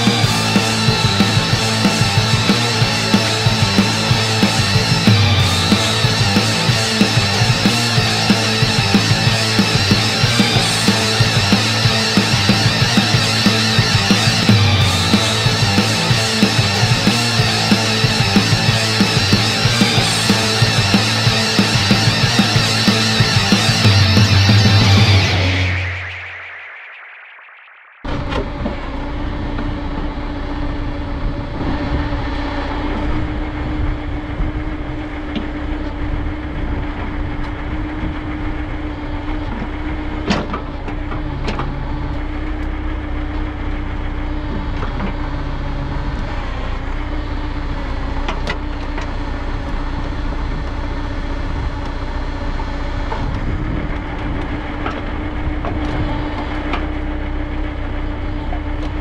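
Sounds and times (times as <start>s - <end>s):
diesel engine whine and rumble: 0.0s - 59.0s.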